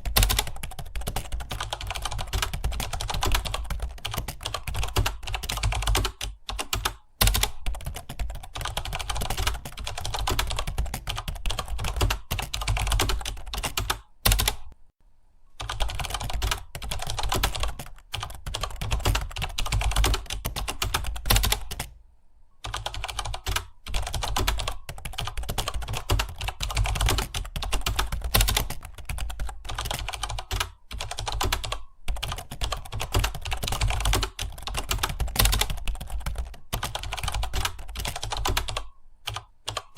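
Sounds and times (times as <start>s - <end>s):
rapid keyboard typing: 0.0s - 14.8s, 15.6s - 22.0s, 22.6s - 39.9s.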